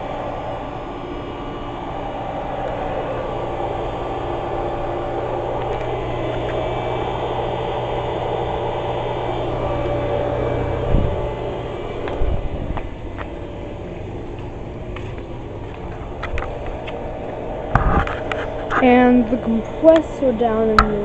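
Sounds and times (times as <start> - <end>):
compressor humming: 0.0 - 21.0
condenser fan blowing air: 0.0 - 21.0.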